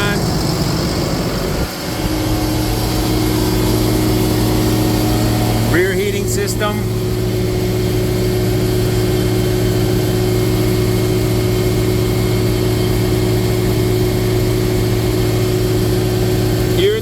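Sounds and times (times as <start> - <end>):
diesel truck engine idling: 0.0 - 17.0
heating system running: 0.0 - 17.0.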